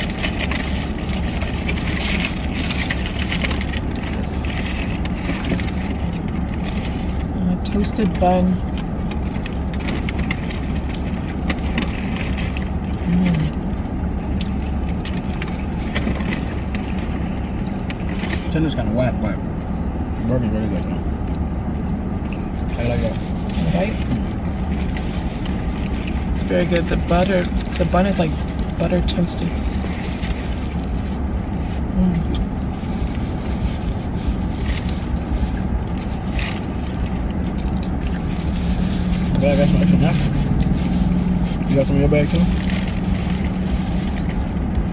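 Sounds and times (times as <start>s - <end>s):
car interior rumble: 0.0s - 44.9s.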